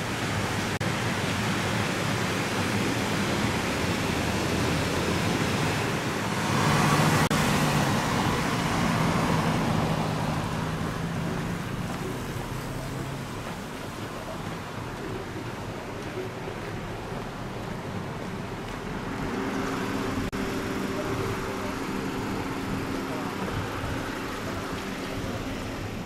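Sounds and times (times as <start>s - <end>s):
low engine hum: 0.0s - 26.0s
passing vehicles rushing: 0.0s - 26.0s.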